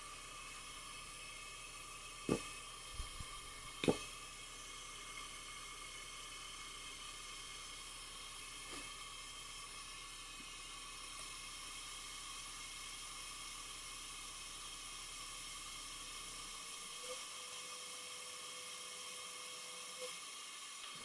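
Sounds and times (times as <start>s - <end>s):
vacuum suction hiss: 0.0s - 17.1s.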